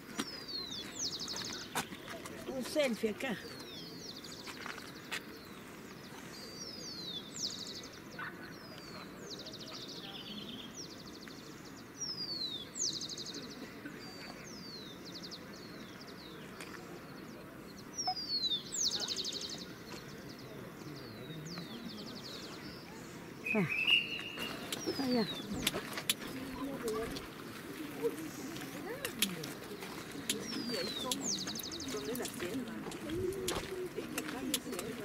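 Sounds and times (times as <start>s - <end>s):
low background murmur: 0.0s - 35.0s
songbird singing: 0.0s - 35.0s.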